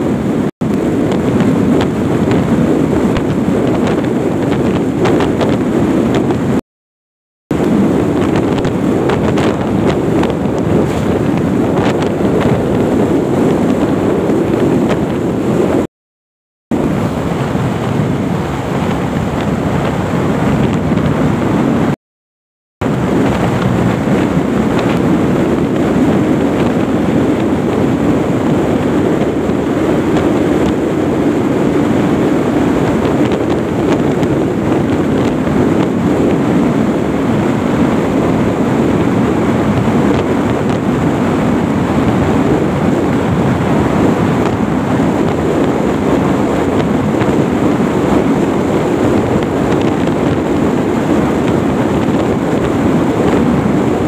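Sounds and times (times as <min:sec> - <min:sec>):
motorcycle running: 0:00.0 - 0:06.6, 0:07.5 - 0:15.8, 0:22.8 - 0:54.0
wind rushing over microphone: 0:00.0 - 0:06.6, 0:07.5 - 0:15.9, 0:16.7 - 0:22.0, 0:22.8 - 0:54.0.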